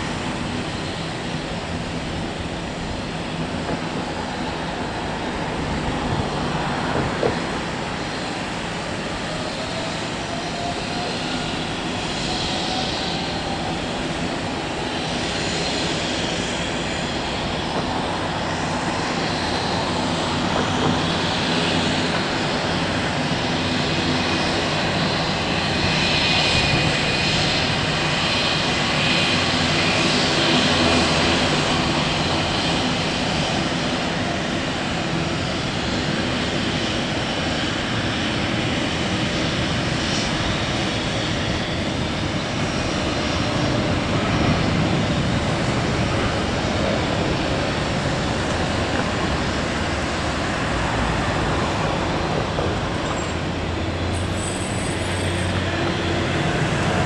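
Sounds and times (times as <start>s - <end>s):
airliner engines whining: 0.0s - 57.0s.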